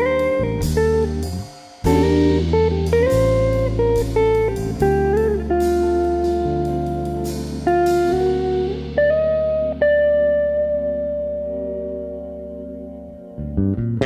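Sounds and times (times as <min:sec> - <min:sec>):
low bass notes: 0:00.0 - 0:14.0
melody of held bending notes: 0:00.0 - 0:14.0.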